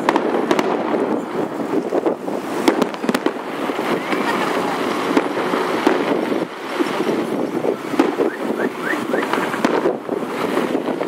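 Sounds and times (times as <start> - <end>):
distant fireworks crackling and popping: 0.0 - 11.0
rising firework whistles: 0.0 - 11.0
road traffic: 0.0 - 11.0
wind on microphone: 0.0 - 11.0.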